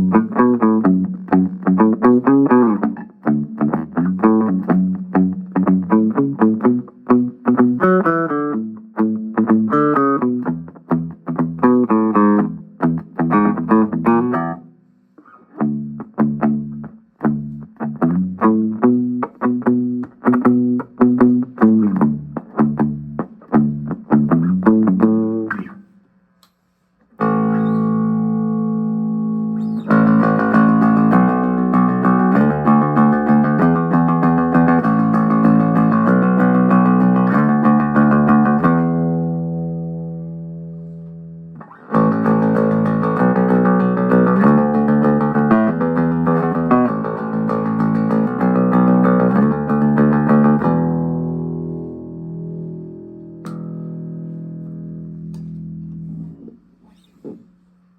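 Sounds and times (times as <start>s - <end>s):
electric bass notes: 0.0s - 14.7s, 15.3s - 25.9s, 27.2s - 57.4s.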